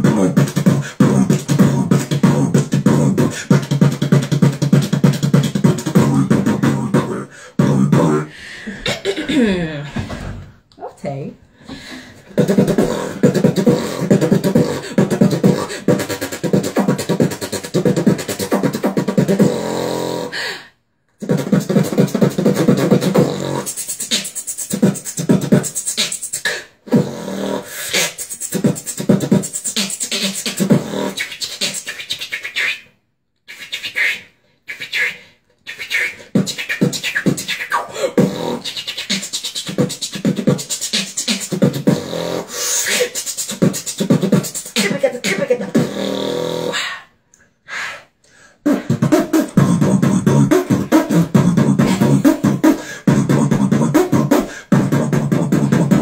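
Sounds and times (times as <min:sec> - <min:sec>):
beatboxing: 0:00.0 - 0:10.8, 0:11.7 - 0:56.0.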